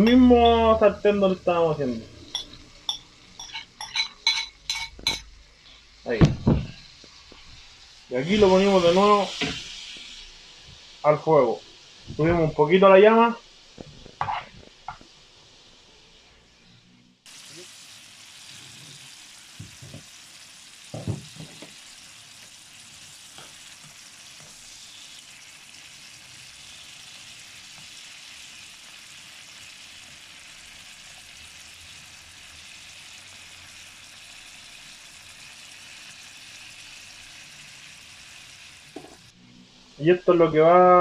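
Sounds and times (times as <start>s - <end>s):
sizzling in a frying pan: 0.0s - 41.0s.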